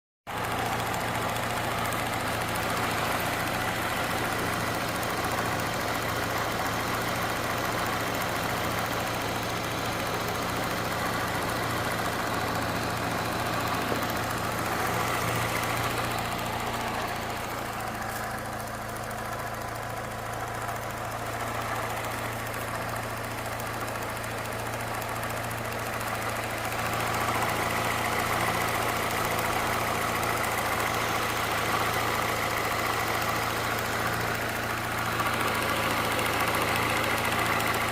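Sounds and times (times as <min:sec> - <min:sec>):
car engine idling: 0:00.3 - 0:37.9
engine ticking: 0:00.3 - 0:37.9.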